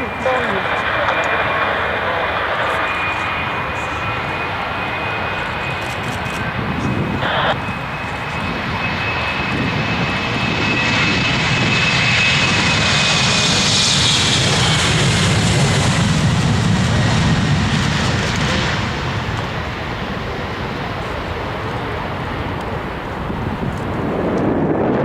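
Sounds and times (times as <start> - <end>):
jet engines passing with high whine: 0.0 - 25.0.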